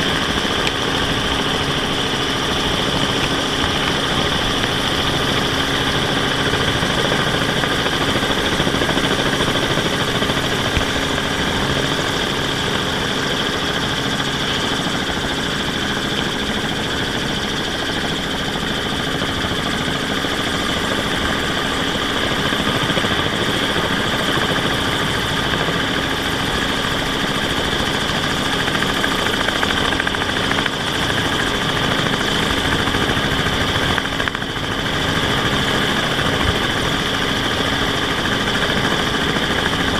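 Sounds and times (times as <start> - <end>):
helicopter engine and rotor: 0.0 - 39.9
high turbine whine: 0.0 - 39.9.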